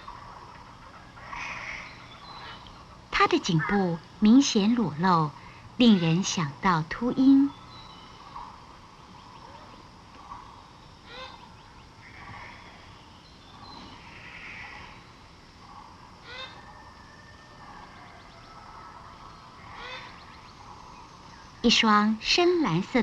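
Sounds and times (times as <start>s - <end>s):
bird calling: 0.0s - 23.0s
distant birds: 0.0s - 23.0s
insects: 0.0s - 23.0s.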